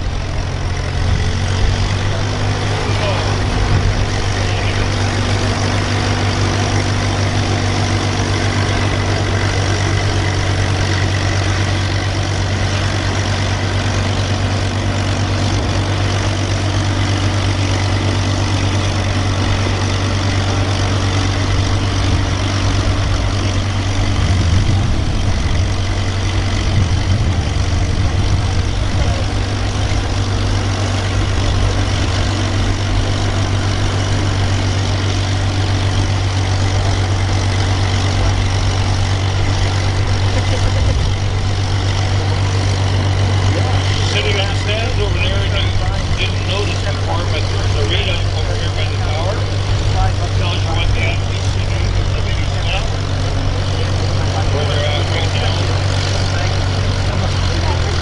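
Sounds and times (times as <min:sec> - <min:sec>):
heavy engine idling: 0:00.0 - 0:58.0.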